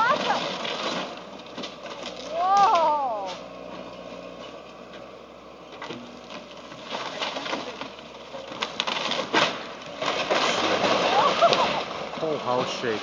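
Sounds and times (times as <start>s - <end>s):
wood cracking and splintering: 0.0s - 3.5s, 5.8s - 13.0s.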